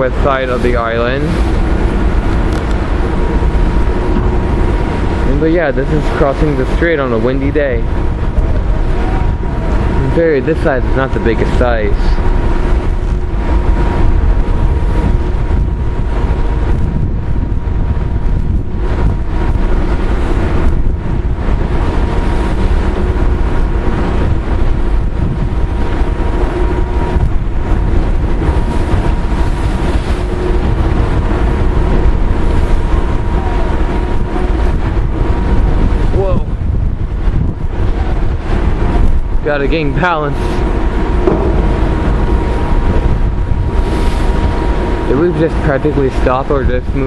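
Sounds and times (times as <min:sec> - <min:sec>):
ferry engines droning: 0:00.0 - 0:47.0
wind buffeting microphone: 0:00.0 - 0:47.0.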